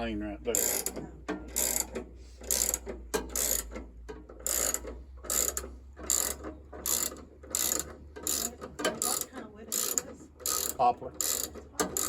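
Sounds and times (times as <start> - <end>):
hand ratchet clicking: 0.5 - 12.0.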